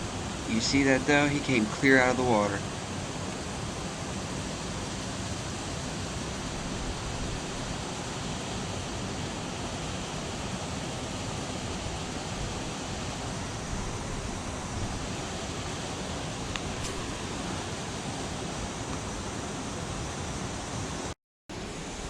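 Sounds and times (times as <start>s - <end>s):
floodwater rushing: 0.0s - 20.4s.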